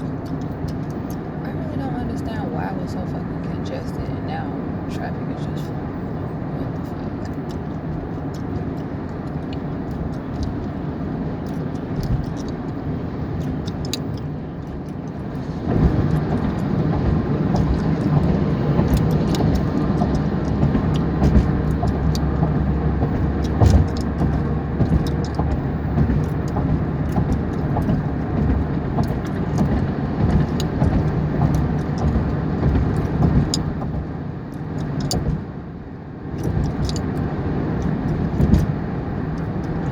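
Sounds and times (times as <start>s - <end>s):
car cabin rumble: 0.0s - 39.9s.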